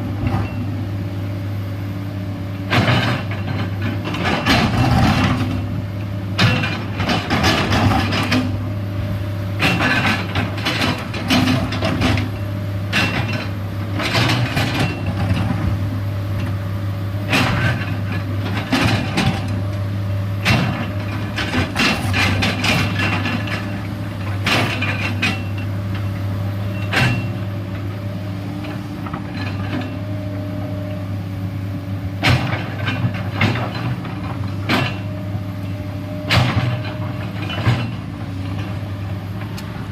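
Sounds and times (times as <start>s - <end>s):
excavator diesel engine running: 0.0s - 39.9s
clanks and scrapes of earth and rock: 2.7s - 8.7s, 9.6s - 16.6s, 17.2s - 19.8s, 20.4s - 28.0s, 28.6s - 31.0s, 32.1s - 39.9s.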